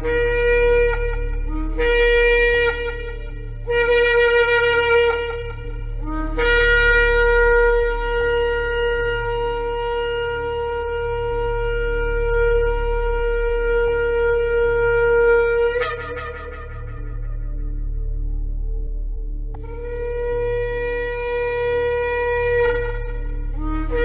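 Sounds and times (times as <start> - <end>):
shofar blast: 0.0 - 17.9, 19.6 - 24.0
low hum: 0.0 - 24.0.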